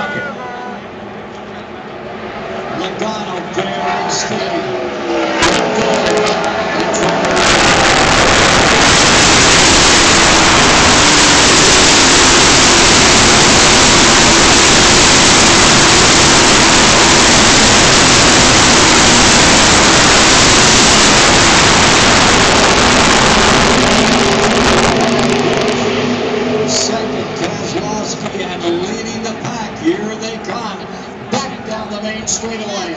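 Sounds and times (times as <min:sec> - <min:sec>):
race cars roaring past: 0:00.0 - 0:32.9.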